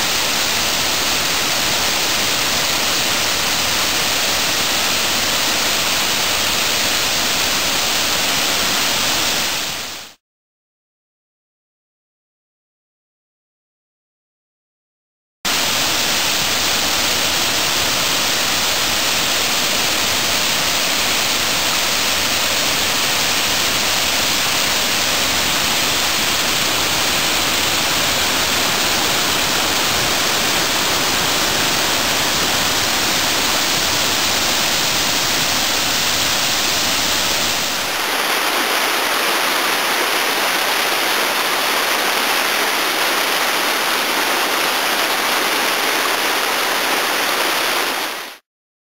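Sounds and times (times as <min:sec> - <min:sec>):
water rushing down a waterfall: 0:00.0 - 0:10.2, 0:15.5 - 0:48.4.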